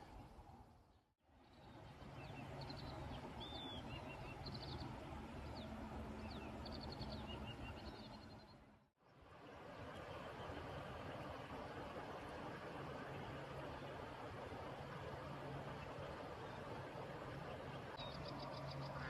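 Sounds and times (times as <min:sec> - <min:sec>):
low outdoor background noise: 0:00.0 - 0:19.0.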